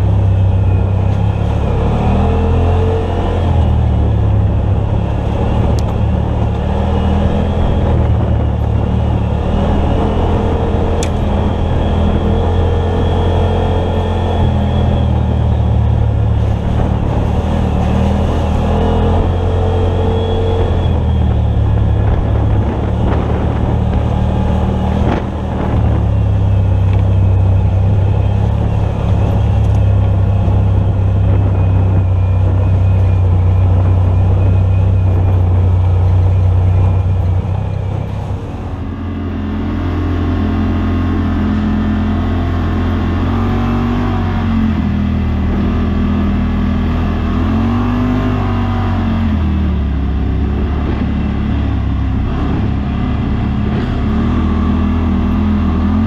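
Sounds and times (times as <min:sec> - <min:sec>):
utility vehicle engine running: 0:00.0 - 0:56.0.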